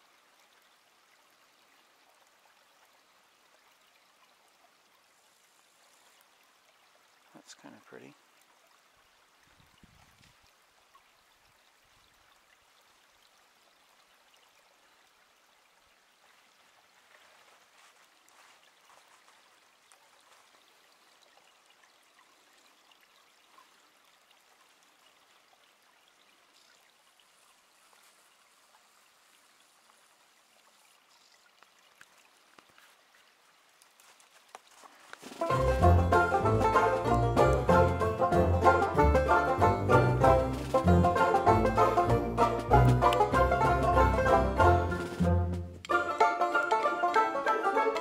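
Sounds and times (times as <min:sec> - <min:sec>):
stream flowing and trickling: 0:00.0 - 0:48.0.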